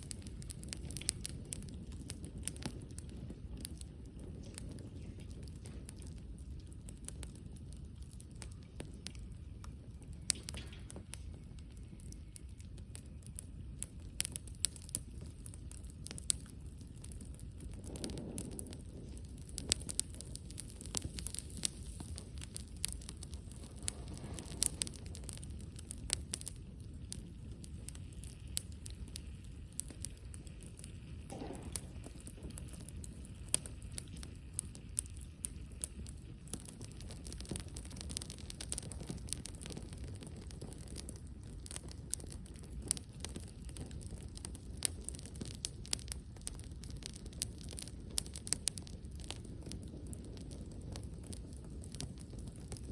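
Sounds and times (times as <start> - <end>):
campfire crackling and popping: 0.0 - 52.9
low fire rumble: 0.0 - 52.9.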